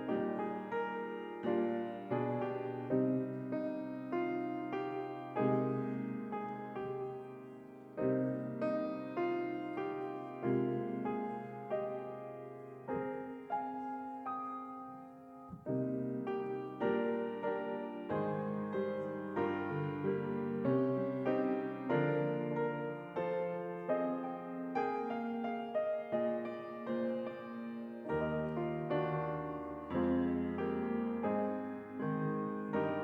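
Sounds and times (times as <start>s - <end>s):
gentle solo piano: 0.0s - 33.0s.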